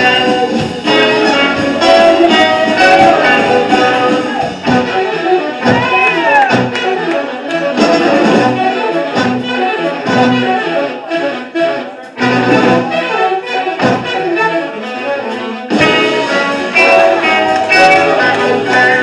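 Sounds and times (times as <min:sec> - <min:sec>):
big band playing jazz-rock: 0:00.0 - 0:10.7, 0:12.1 - 0:15.0, 0:15.6 - 0:19.0.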